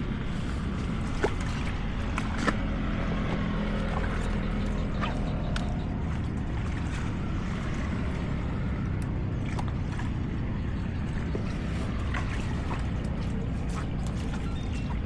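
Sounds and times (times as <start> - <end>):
motor vehicle engine rumbling: 0.0 - 15.0.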